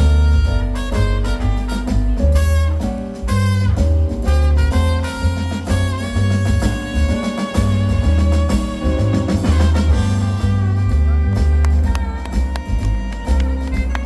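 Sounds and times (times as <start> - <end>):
bass notes: 0.0 - 14.0
drum kit and cymbals: 0.0 - 14.0
piano: 0.0 - 14.0
saxophone: 0.0 - 14.0
trumpet: 0.0 - 14.0.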